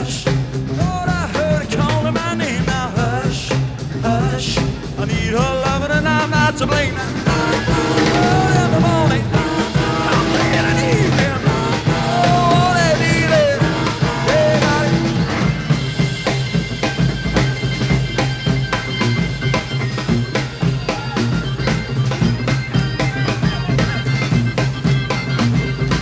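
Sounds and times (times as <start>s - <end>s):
drum kit beat: 0.0s - 26.0s
electric bass: 0.0s - 26.0s
organ: 0.0s - 26.0s.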